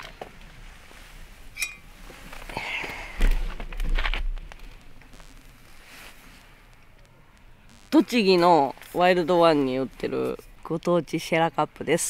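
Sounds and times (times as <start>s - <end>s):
rustling: 0.0s - 10.3s.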